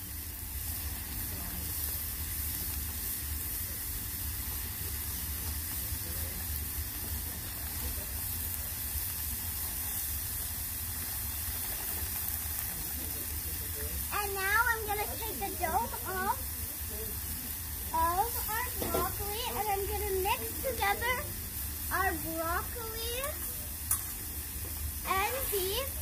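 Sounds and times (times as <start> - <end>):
food sizzling on a griddle: 0.0 - 26.0.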